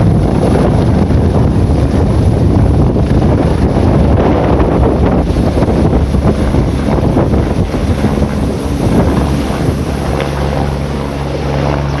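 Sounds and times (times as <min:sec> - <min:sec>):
helicopter drone: 0:00.0 - 0:12.0
wind buffeting microphone: 0:00.0 - 0:12.0.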